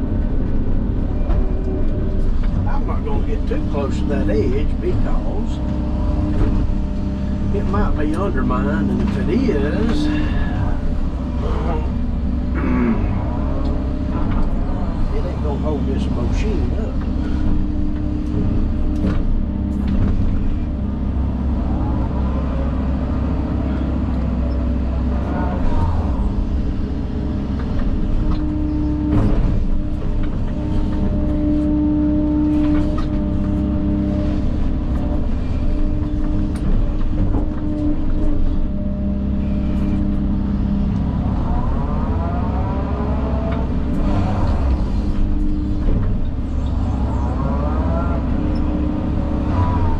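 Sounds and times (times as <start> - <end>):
heavy machine engine running: 0.0 - 49.9.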